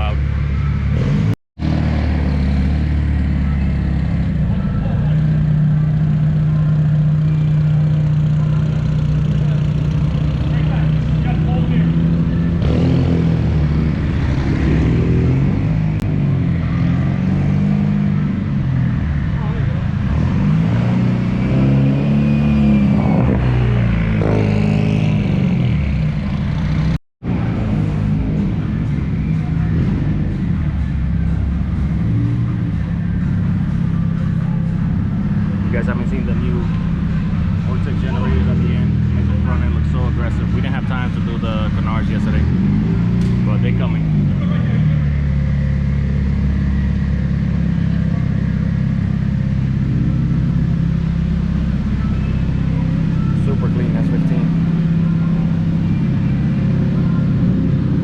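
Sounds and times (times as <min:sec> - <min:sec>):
car engine running: 0:00.0 - 0:20.6, 0:25.2 - 0:58.0.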